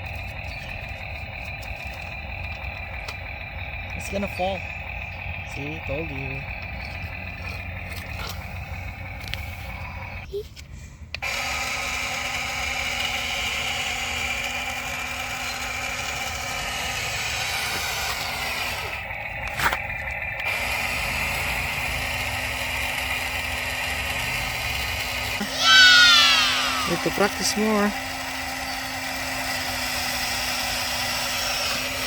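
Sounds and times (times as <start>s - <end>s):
toy motors and gears whirring: 0.0s - 32.0s.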